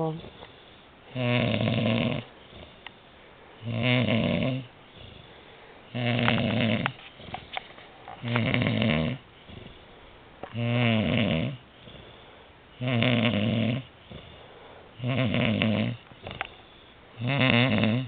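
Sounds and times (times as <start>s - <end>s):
loud snoring: 1.1s - 2.9s, 3.6s - 7.5s, 8.2s - 9.9s, 10.5s - 18.0s.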